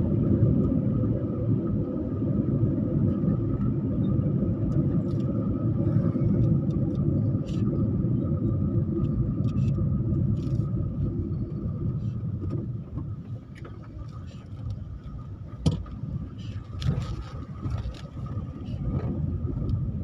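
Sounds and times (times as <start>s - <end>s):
road vehicle rumble: 0.0s - 20.0s.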